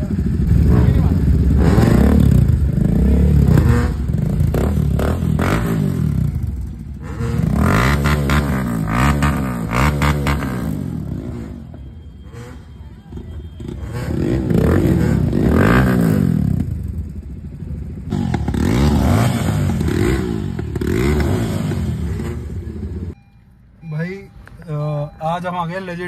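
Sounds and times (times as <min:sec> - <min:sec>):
motorcycle engines revving: 0:00.0 - 0:23.2.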